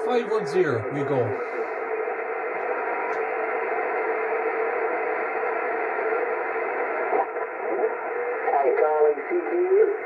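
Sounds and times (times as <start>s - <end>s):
radio hiss and static: 0.0s - 10.0s.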